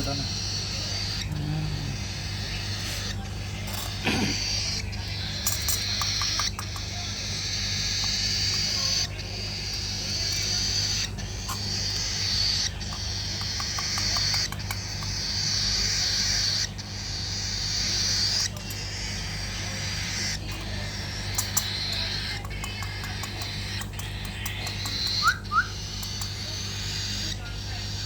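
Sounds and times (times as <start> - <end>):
chicks hissing begging calls: 0.0 - 28.0
steady low hum: 0.0 - 28.0.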